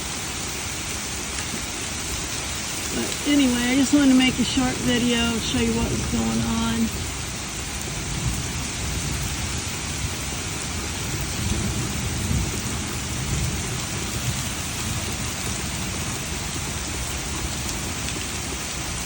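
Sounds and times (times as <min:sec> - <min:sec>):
heavy rain pouring: 0:00.0 - 0:19.0
low rumble of thunder: 0:03.0 - 0:19.0.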